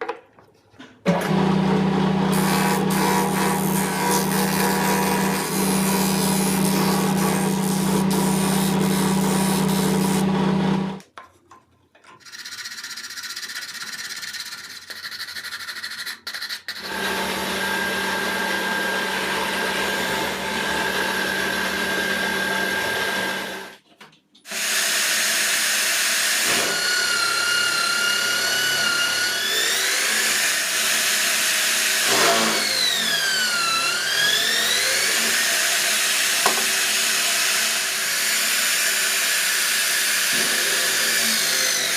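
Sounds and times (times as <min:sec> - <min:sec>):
electric drill motor whine: 0:01.2 - 0:11.0, 0:16.8 - 0:23.8, 0:24.5 - 0:41.9.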